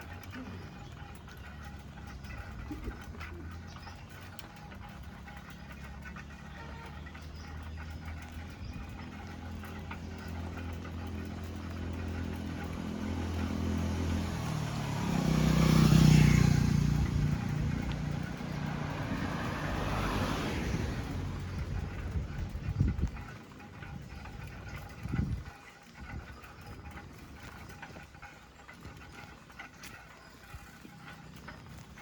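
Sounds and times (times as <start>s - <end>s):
engine and tyre noise: 0.0s - 32.0s
vehicles passing on road: 0.0s - 32.0s.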